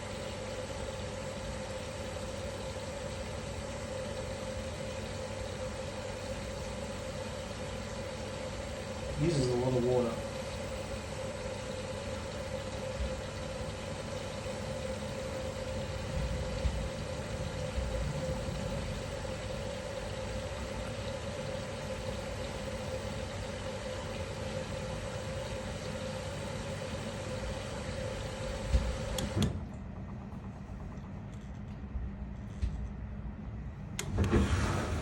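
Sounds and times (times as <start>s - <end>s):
dishwasher hum: 0.0s - 35.0s.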